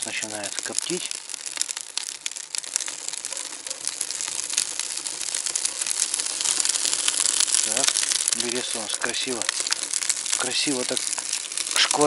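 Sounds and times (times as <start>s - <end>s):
fire crackling in wood stove: 0.0s - 12.0s.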